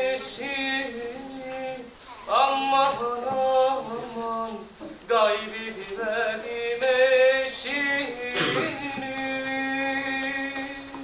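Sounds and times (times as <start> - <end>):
man singing slow melody: 0.0 - 11.0.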